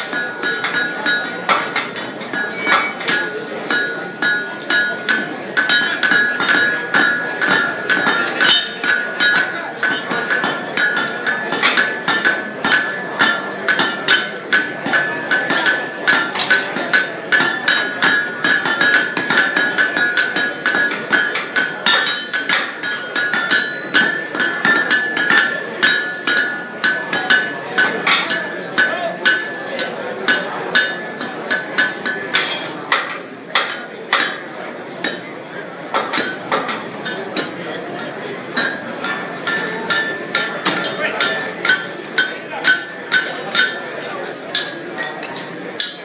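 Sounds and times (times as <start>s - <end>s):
anvil ringing: 0.0s - 35.3s, 35.9s - 46.0s
hammer striking steel on anvil: 0.0s - 46.0s.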